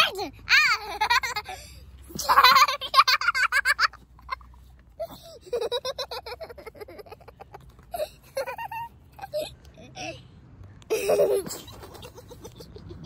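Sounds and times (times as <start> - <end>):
child laughing: 0.5 - 10.2, 10.9 - 13.0.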